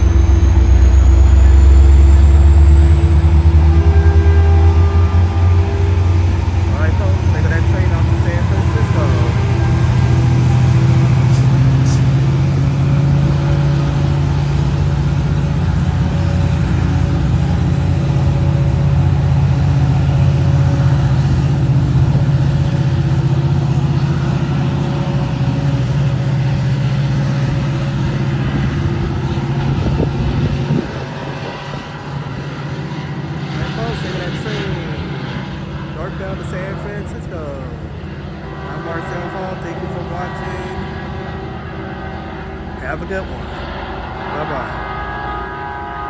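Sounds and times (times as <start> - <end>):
diesel locomotive engine running: 0.0 - 46.0
rail and wheel noise: 0.0 - 46.0.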